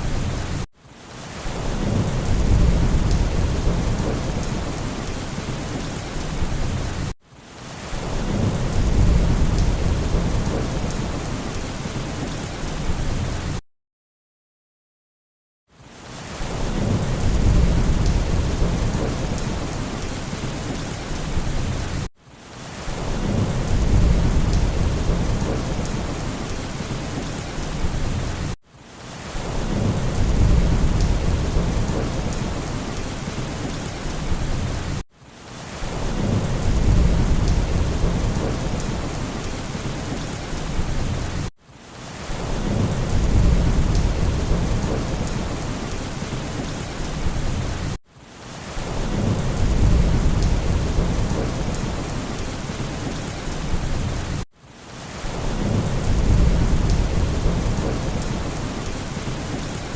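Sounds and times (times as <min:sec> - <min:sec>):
heavy rain: 0:00.0 - 0:13.6, 0:15.7 - 0:59.9
rolling rumble of thunder: 0:01.6 - 0:07.0, 0:07.9 - 0:13.5, 0:16.4 - 0:22.0, 0:23.0 - 0:28.6, 0:29.3 - 0:35.0, 0:36.0 - 0:41.5, 0:42.4 - 0:48.0, 0:48.9 - 0:54.4, 0:55.4 - 0:59.4.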